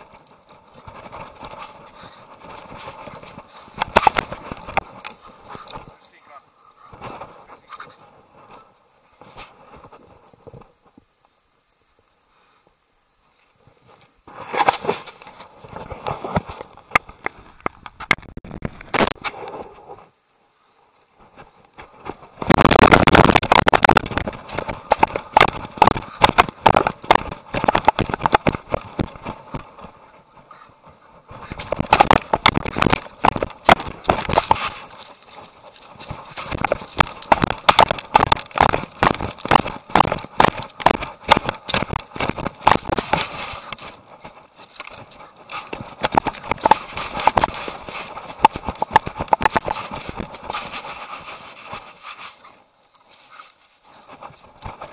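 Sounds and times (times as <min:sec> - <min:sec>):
dog paws running on dirt and leaves: 0:00.0 - 0:11.0, 0:21.0 - 0:54.9.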